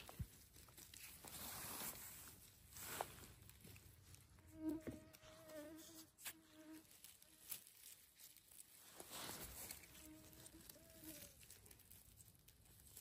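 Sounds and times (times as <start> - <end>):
faint snaps and rustles: 0.0 - 13.0.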